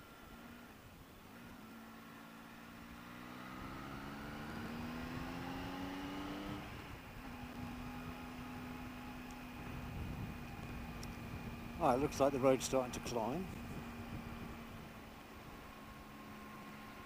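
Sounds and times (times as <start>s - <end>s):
motorcycle engine revving: 1.4s - 17.0s.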